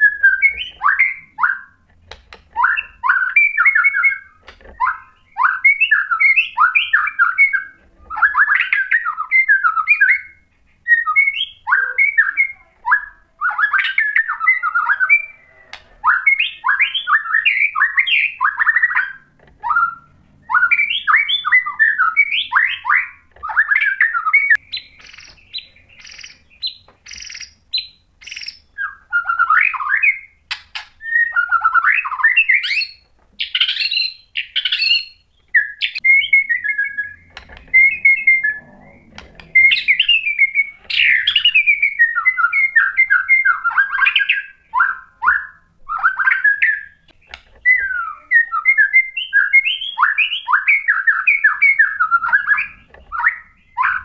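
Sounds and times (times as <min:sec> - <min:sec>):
songbird whistling phrases: 0:00.0 - 0:01.8, 0:02.5 - 0:30.4, 0:31.0 - 0:54.0.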